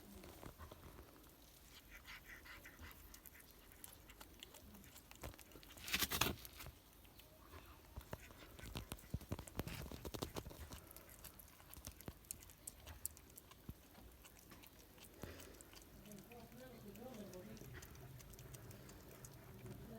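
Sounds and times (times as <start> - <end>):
cat chewing raw meat: 0.0 - 19.9.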